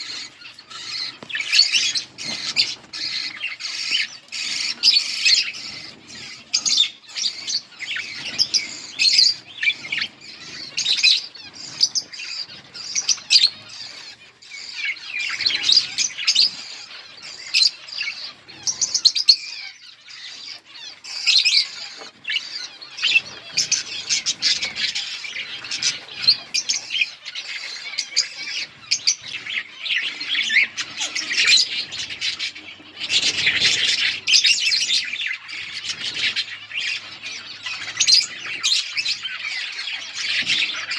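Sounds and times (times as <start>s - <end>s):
budgerigars chattering and chirping: 0.0s - 40.9s.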